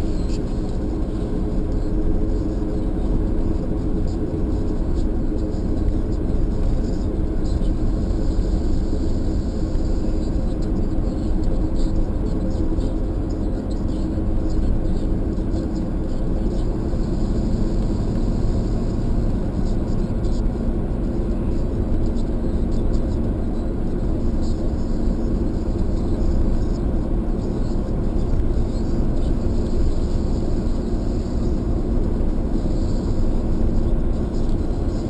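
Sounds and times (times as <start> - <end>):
car cabin engine and road rumble: 0.0 - 35.0.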